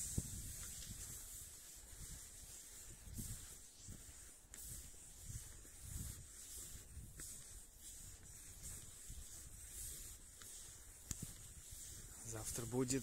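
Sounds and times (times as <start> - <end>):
skis swishing over snow: 0.0 - 13.0.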